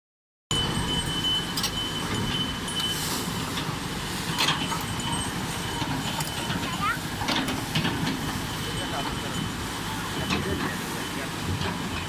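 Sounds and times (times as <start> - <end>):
excavator diesel engine running: 0.5 - 12.0
thin steady whine: 0.5 - 12.0
river water rushing: 0.6 - 12.0.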